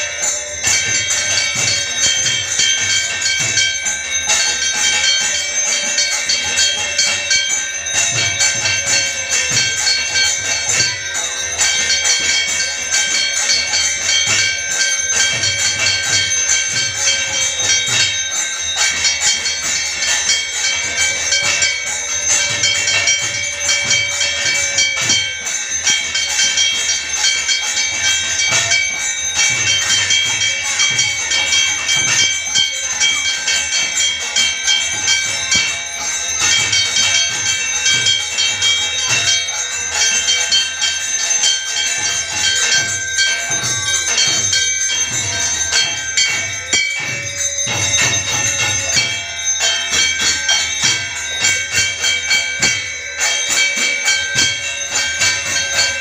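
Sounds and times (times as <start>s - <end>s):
hand bell ringing: 0.0s - 56.0s.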